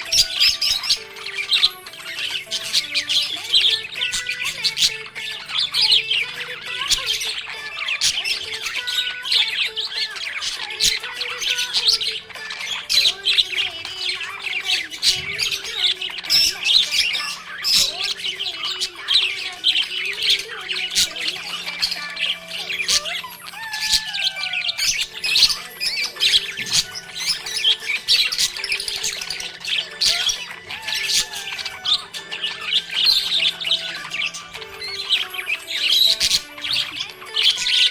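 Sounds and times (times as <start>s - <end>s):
budgerigars chirping and warbling: 0.0s - 37.9s.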